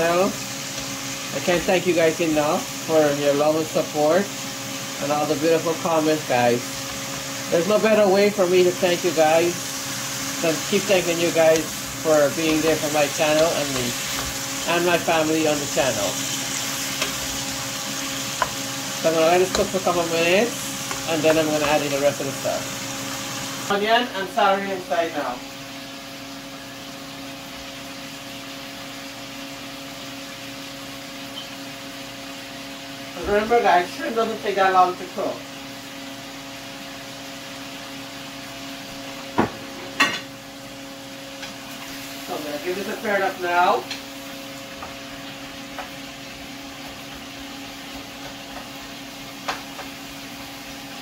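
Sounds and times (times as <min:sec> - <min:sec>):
food sizzling in oil: 0:00.0 - 0:51.0
range hood fan whirring: 0:00.0 - 0:51.0.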